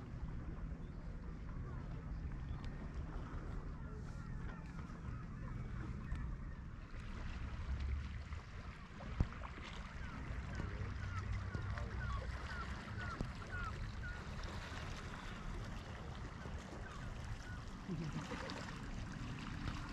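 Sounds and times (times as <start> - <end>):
lake waves washing on shore: 1.3 - 19.9.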